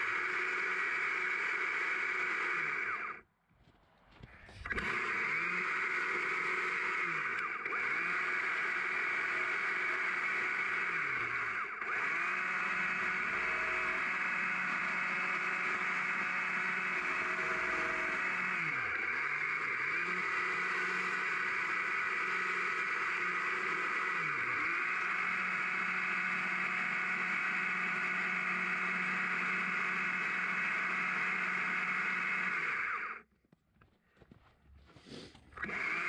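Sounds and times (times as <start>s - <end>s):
chainsaw cutting log: 0.0s - 3.2s, 4.5s - 33.2s, 35.1s - 36.0s.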